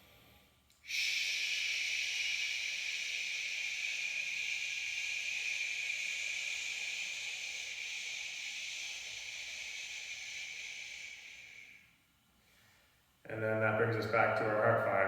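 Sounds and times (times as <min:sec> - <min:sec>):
man exhaling shhh: 0:00.0 - 0:12.8.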